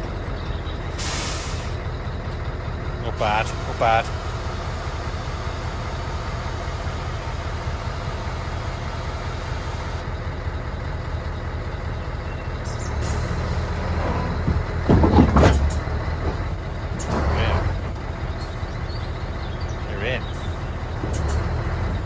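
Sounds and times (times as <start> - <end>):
diesel lorry engine running: 0.0 - 22.0.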